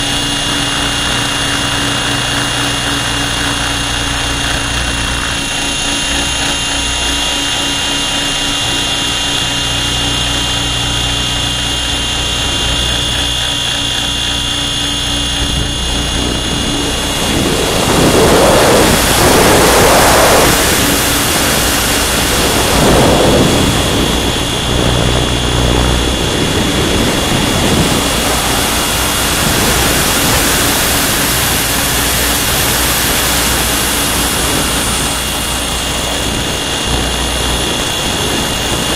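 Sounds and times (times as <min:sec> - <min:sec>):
high drive whine: 0:00.0 - 0:38.9
low rotor hum: 0:00.0 - 0:38.9
wind rushing over microphone: 0:00.0 - 0:38.9.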